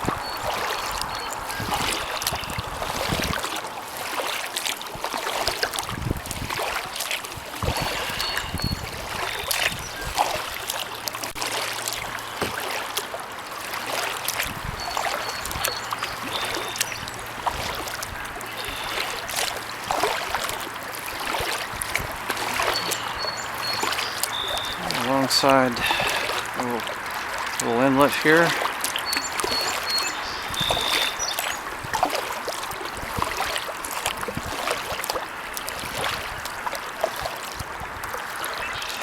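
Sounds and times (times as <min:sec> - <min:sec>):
paddle strokes in water: 0:00.0 - 0:39.0
water dripping off paddle: 0:00.0 - 0:39.0.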